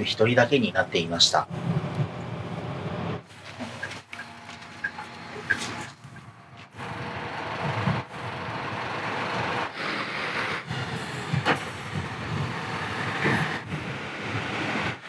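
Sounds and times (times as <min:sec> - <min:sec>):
bus engine rumble: 0:00.0 - 0:15.0
tyre and road noise: 0:00.0 - 0:15.0.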